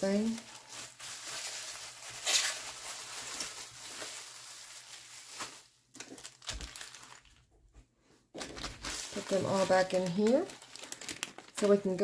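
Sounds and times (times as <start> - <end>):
bubble wrap crinkling: 0.0 - 7.6, 8.3 - 12.0.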